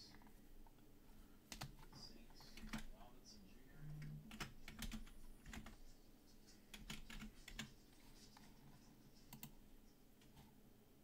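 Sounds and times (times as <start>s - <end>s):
faint keyboard typing: 0.0s - 3.1s, 3.8s - 10.6s.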